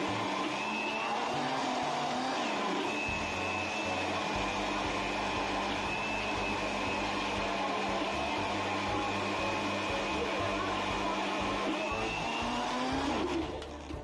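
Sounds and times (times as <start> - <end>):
blender running: 0.0 - 14.0.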